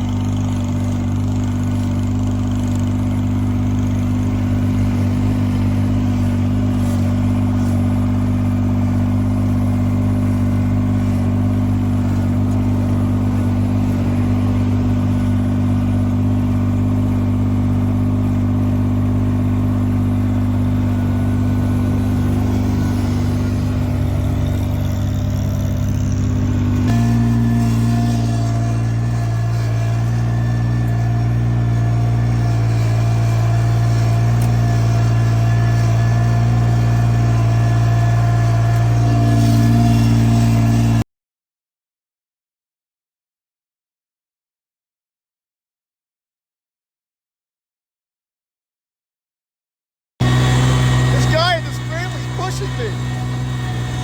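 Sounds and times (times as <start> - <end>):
engine running: 0.0 - 41.0, 50.2 - 54.0.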